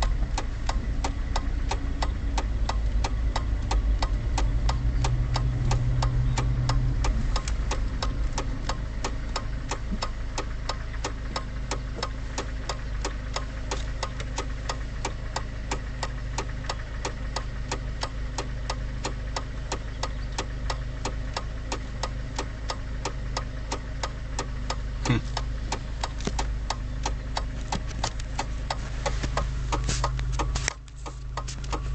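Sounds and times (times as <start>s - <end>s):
car engine idling: 0.0s - 31.9s
regular ticking: 0.0s - 31.9s.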